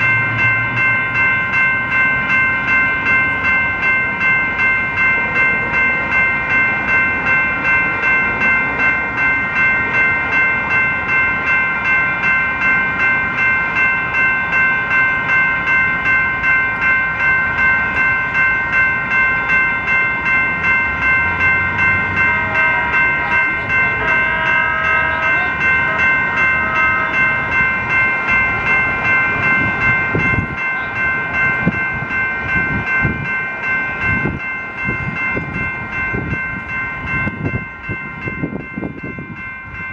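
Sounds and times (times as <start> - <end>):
railroad crossing bells ringing: 0.0 - 39.9
train rumbling and clattering: 0.0 - 39.9.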